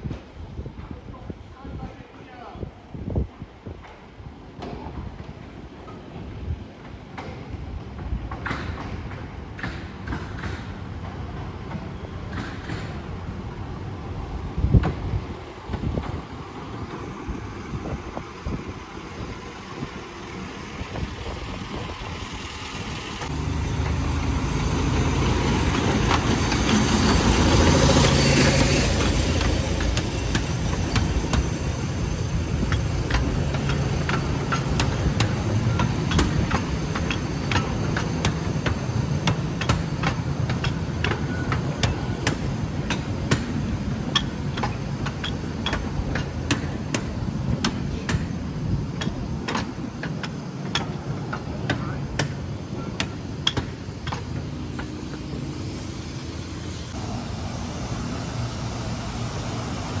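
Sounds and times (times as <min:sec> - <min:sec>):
diesel locomotive engine: 0:00.0 - 1:00.0
wheels clicking over rail joints: 0:03.6 - 1:00.0.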